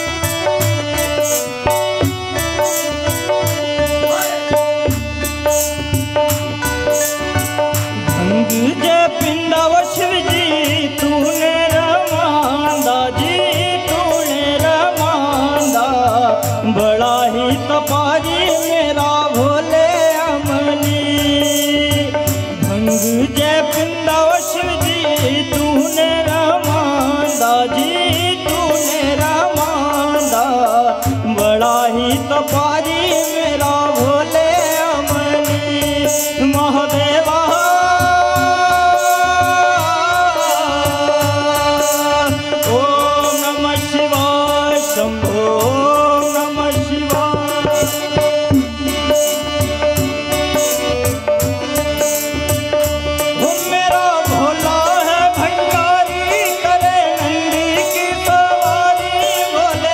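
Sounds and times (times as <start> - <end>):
keyboard melody: 0.0 - 59.9
tabla rhythm: 0.0 - 59.9
person singing: 2.5 - 5.6, 6.8 - 59.9.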